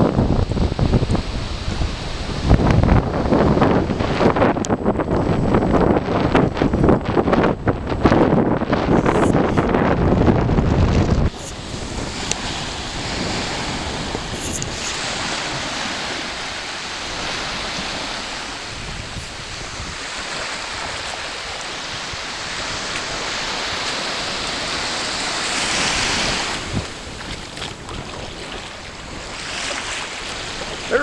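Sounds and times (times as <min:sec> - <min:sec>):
surf washing onto beach: 0:00.0 - 0:31.0
wind buffeting microphone: 0:00.0 - 0:31.0.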